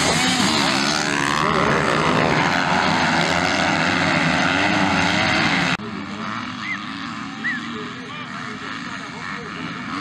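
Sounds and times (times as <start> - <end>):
distant dirt bike engines: 0.0 - 10.0
motocross bikes racing: 0.0 - 10.0.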